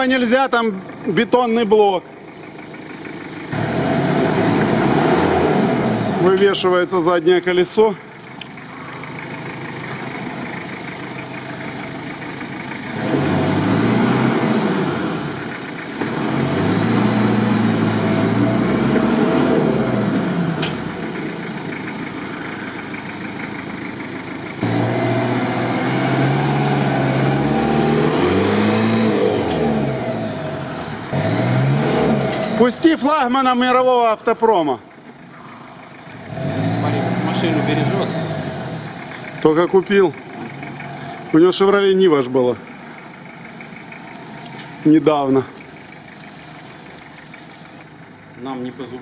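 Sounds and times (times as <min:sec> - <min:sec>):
truck engine revving: 0:00.0 - 0:49.0.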